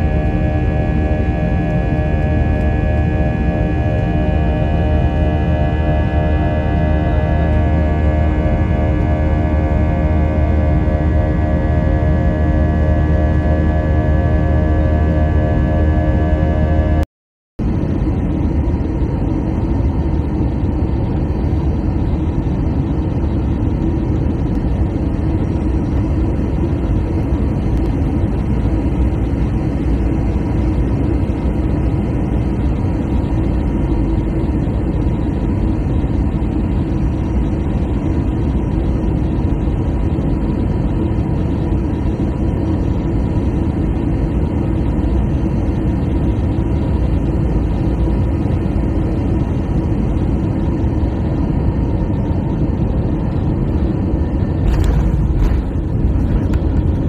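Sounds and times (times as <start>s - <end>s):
engine droning: 0.0s - 17.0s, 17.6s - 57.0s.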